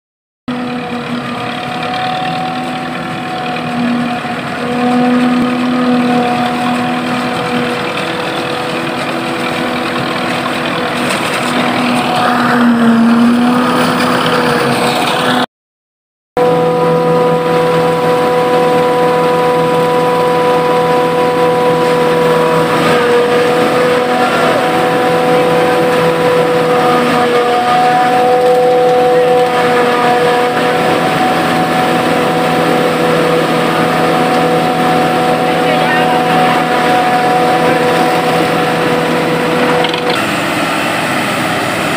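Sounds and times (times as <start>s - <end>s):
forage harvester drone: 0.5s - 15.5s, 16.4s - 41.9s.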